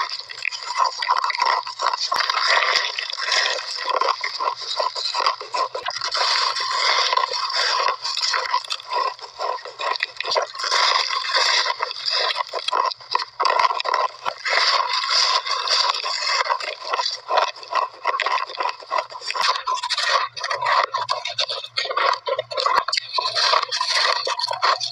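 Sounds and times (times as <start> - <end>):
chewing shaved ice: 0.0 - 24.9.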